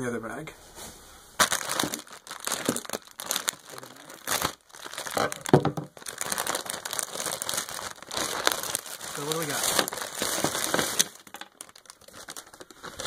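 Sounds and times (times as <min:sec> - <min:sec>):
plastic bag crinkling: 0:01.4 - 0:13.0.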